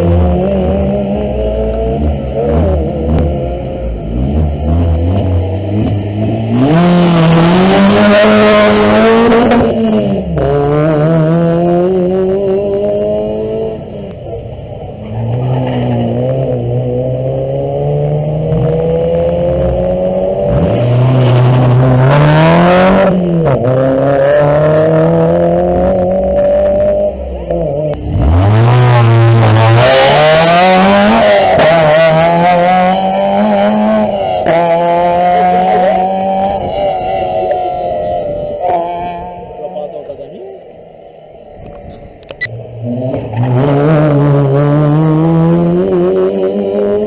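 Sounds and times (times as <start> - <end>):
rally car engine at full throttle: 0.0 - 47.0.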